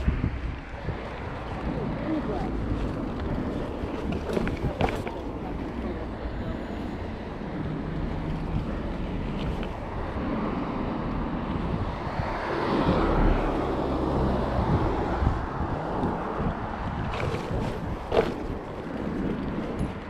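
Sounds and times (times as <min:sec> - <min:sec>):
bike rolling noise: 0:00.0 - 0:20.0
wind buffeting microphone: 0:00.0 - 0:20.0.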